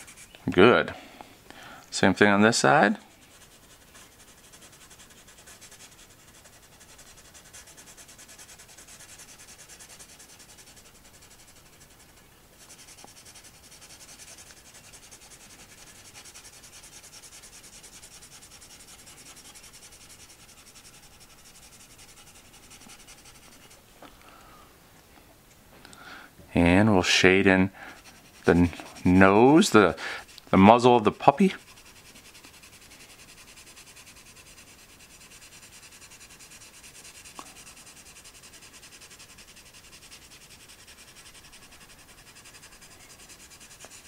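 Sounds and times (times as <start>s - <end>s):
pencil shading on paper: 0.0s - 0.4s, 3.1s - 23.8s, 27.3s - 44.0s.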